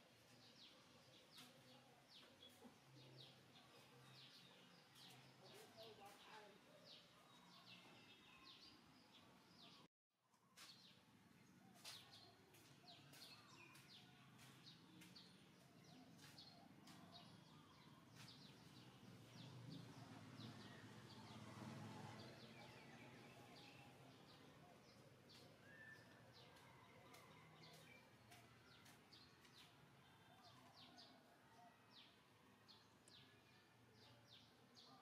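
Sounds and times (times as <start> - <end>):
faint birdsong chirps: 0.0 - 35.0.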